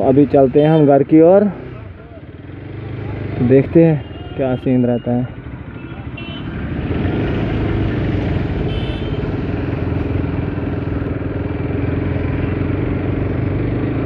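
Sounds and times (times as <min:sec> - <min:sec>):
motorcycle engine running: 0:00.0 - 0:04.2, 0:05.3 - 0:14.0
road and wind noise: 0:00.0 - 0:14.0.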